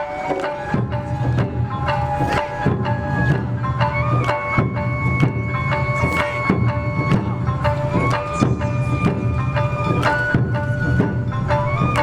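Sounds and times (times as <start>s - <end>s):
held melody notes: 0.0s - 12.0s.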